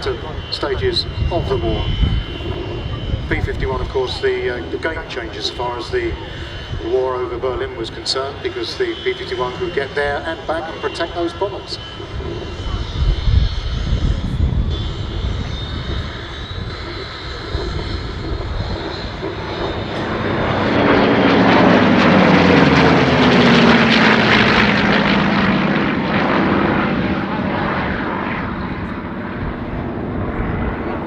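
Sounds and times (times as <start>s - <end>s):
propeller fighter planes flying past: 0.0s - 31.0s.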